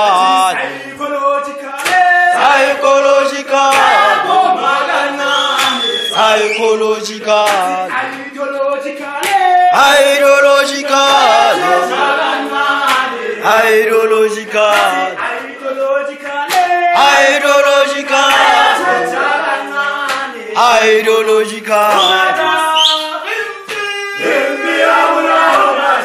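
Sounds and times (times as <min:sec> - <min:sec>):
group singing and chanting: 0:00.0 - 0:26.0.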